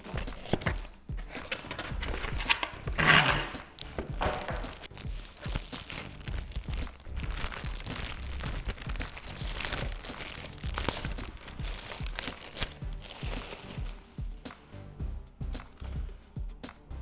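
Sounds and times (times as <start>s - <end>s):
packaging crinkling and rustling: 0.0s - 13.9s.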